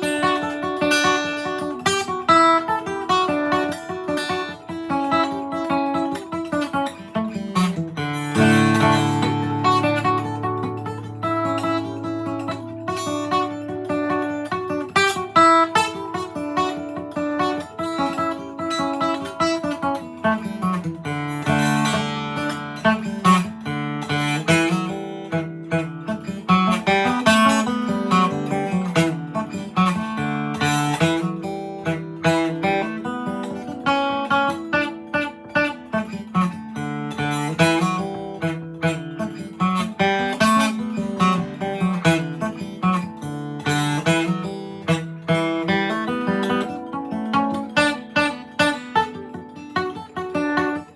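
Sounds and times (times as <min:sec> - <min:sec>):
acoustic guitar fiddle tune: 0:00.0 - 0:50.9.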